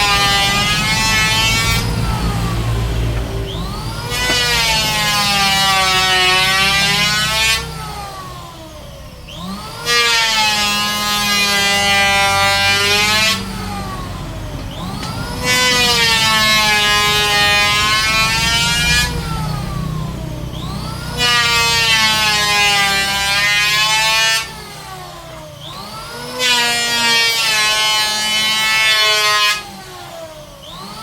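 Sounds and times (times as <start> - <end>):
power saw cutting wood: 0.0 - 31.0.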